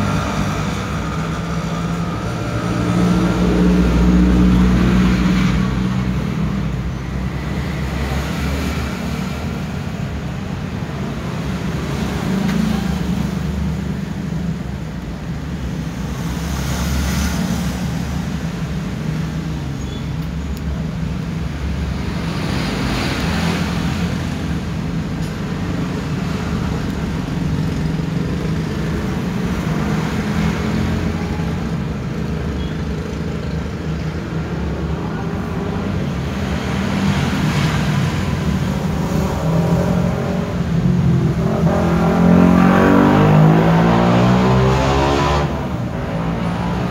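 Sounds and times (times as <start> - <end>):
road traffic rumble: 0.0 - 46.9.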